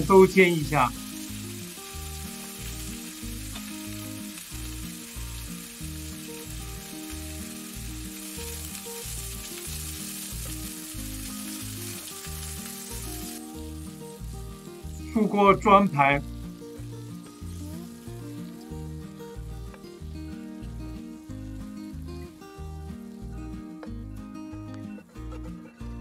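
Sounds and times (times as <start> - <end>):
meat sizzling in a frying pan: 0.0 - 23.6
background music with bass line: 0.0 - 26.0.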